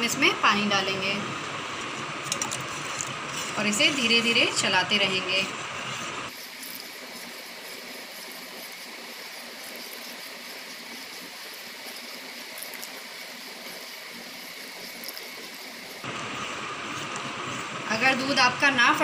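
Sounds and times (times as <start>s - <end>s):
steady hiss: 0.0s - 19.0s
liquid swishing: 2.2s - 18.3s.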